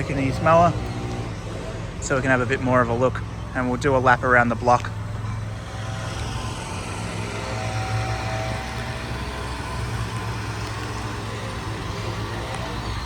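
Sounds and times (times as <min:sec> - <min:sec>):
lawn mower engine droning: 0:00.0 - 0:13.0.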